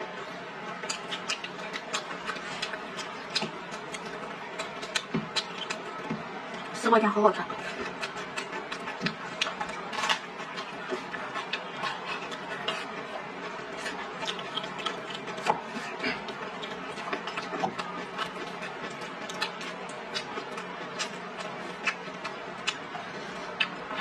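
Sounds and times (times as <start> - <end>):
person chewing food: 0.7 - 6.7, 7.5 - 24.0.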